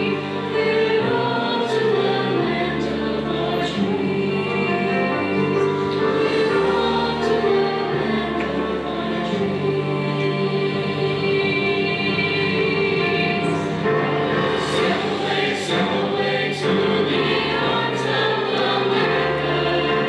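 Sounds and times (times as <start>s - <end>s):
choir singing: 0.0s - 20.0s
instrumental accompaniment: 0.0s - 20.0s.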